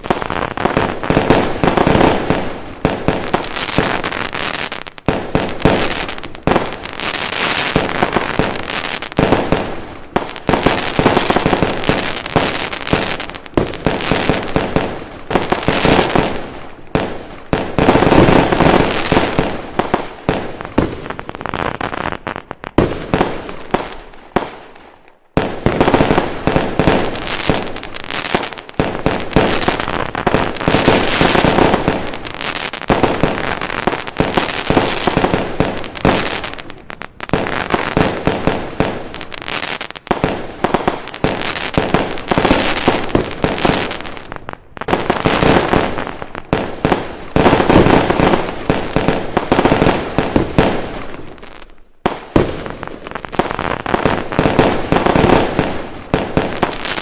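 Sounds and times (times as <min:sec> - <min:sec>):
firecrackers crackling: 0:00.0 - 0:57.0
fireworks bangs: 0:00.0 - 0:57.0.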